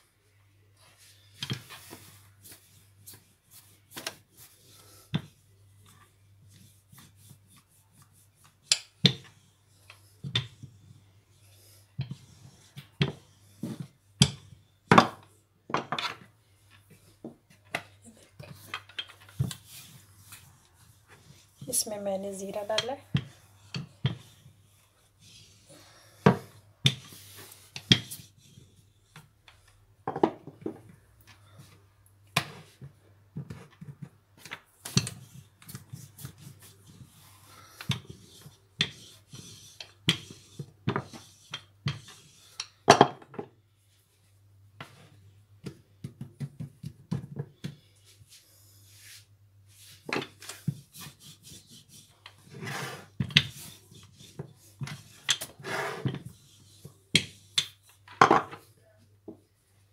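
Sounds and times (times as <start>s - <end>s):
rolling pin rolling dough: 1.0s - 15.2s, 16.6s - 31.6s, 32.4s - 43.1s, 44.8s - 58.6s.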